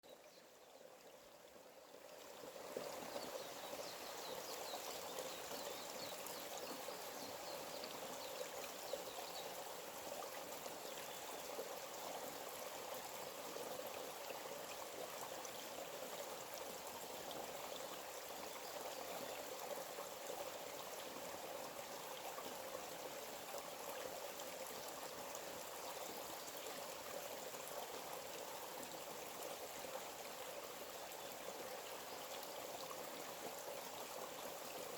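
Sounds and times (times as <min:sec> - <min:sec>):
forest stream flowing: 0:00.0 - 0:34.9.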